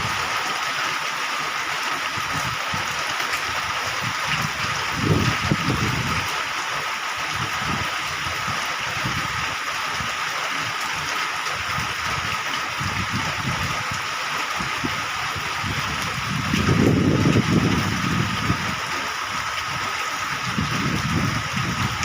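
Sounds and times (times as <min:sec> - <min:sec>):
heavy rain falling: 0:00.0 - 0:22.0
running water: 0:00.0 - 0:22.0.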